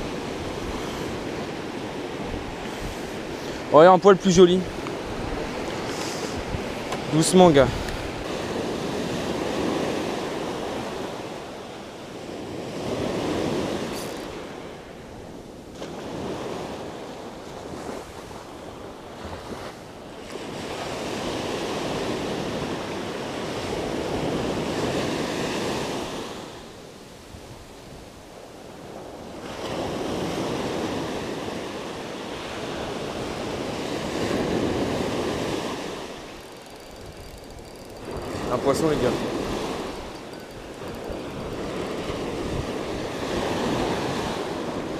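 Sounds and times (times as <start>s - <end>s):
waves crashing on beach: 0.0s - 44.9s.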